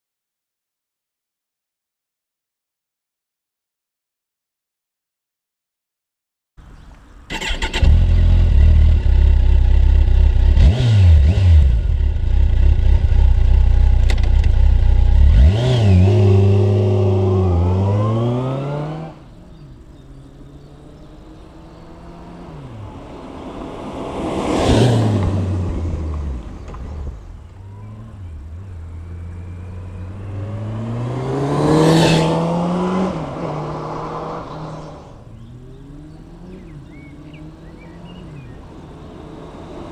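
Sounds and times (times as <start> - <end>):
motorcycle engine revving: 7.3 - 39.9.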